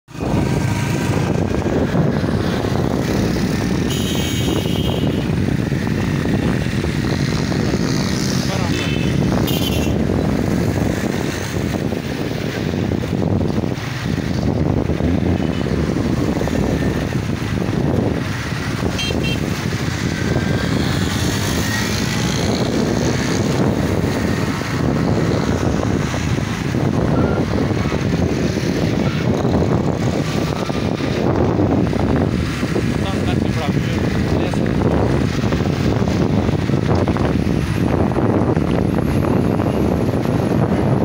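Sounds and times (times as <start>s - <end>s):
motorcycle engine riding: 0.1s - 41.0s
wind rushing over microphone: 0.1s - 41.0s.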